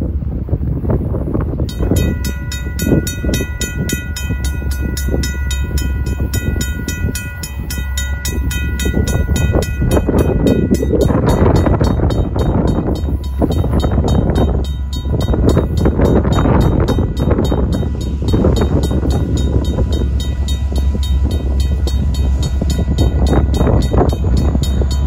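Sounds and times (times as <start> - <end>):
railroad crossing bell ringing: 1.6 - 25.0.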